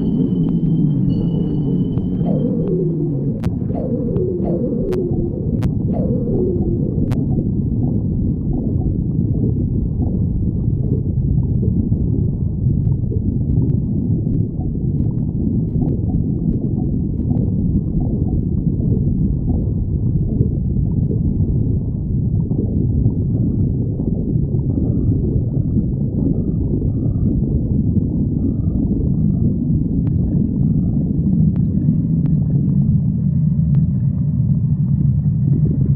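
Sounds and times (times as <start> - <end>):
stomach growling: 0.0 - 35.9.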